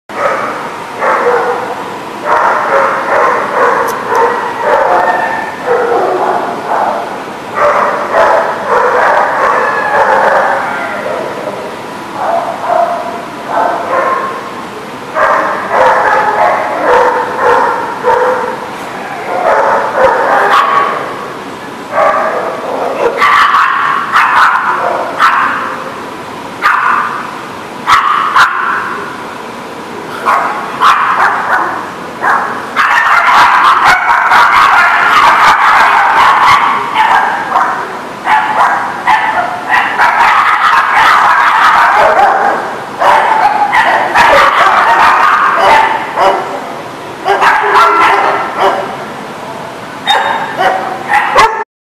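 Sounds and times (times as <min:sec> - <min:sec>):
dogs barking and yipping: 0:00.1 - 0:11.6, 0:12.2 - 0:14.5, 0:15.1 - 0:25.8, 0:26.6 - 0:29.0, 0:30.2 - 0:49.0, 0:50.0 - 0:51.6.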